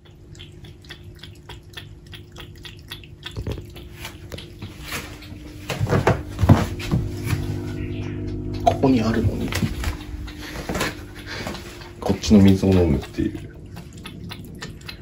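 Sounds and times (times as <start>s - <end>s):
cat lapping water: 0.0s - 15.0s.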